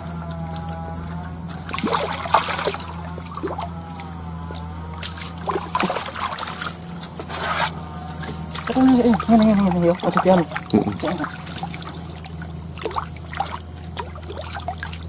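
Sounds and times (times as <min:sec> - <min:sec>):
eel thrashing in water: 0:00.0 - 0:15.0
water splashing and sloshing: 0:00.0 - 0:15.0.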